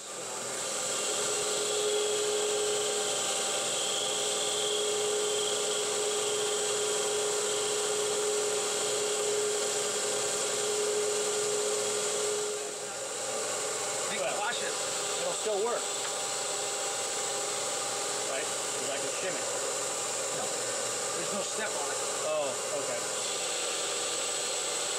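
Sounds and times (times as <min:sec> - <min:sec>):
machine hum: 0:00.0 - 0:24.9
metal lathe cutting: 0:00.0 - 0:24.9.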